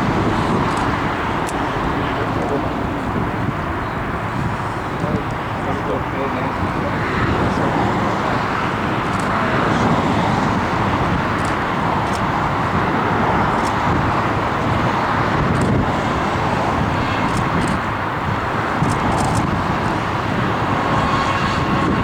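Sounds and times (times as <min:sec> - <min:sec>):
distant engine roar: 0:00.0 - 0:22.0.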